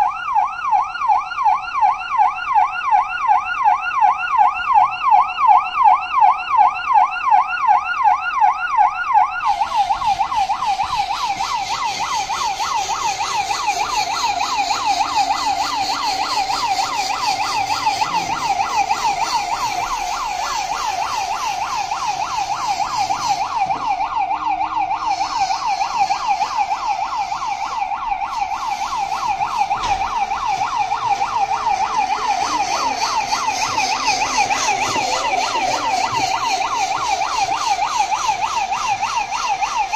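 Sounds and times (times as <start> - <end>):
toy siren wailing: 0.0 - 39.9.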